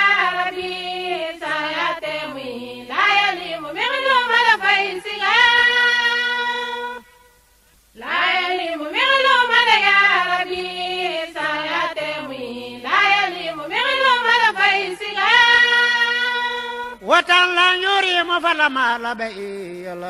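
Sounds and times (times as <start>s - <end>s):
high voice chanting devotional song: 0.0s - 7.4s, 8.0s - 20.0s.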